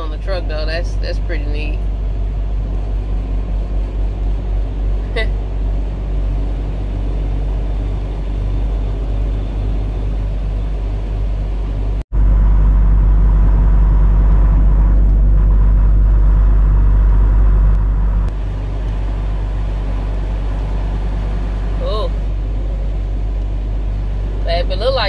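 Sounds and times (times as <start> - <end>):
diesel truck engine droning: 0.0 - 25.0
road noise: 0.0 - 25.0.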